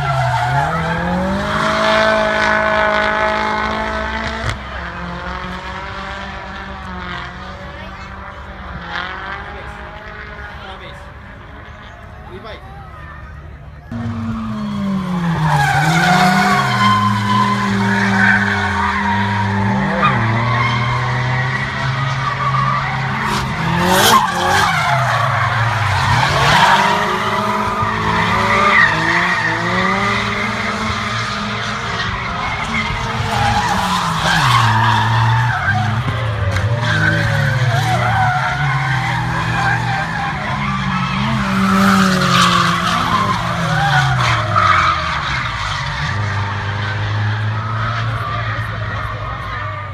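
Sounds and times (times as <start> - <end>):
car engines revving hard: 0.0 - 49.9.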